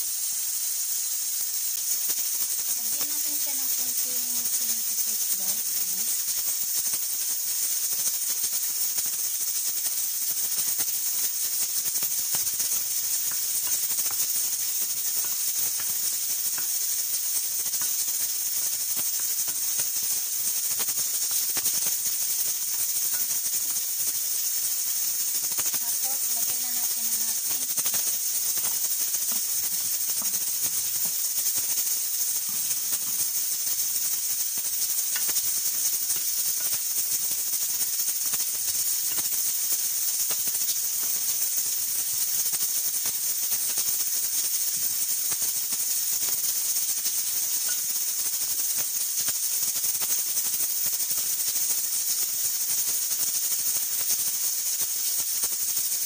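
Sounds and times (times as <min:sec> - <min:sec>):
vegetables sizzling in oil: 0:00.0 - 0:56.0.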